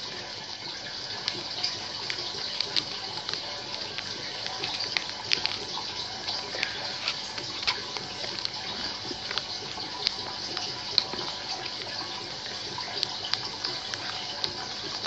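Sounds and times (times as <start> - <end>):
paper rustling and crinkling: 1.2 - 15.0.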